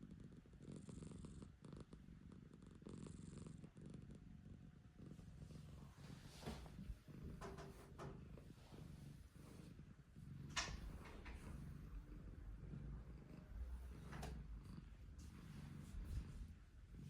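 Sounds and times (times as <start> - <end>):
cat snoring softly: 0.0 - 17.0.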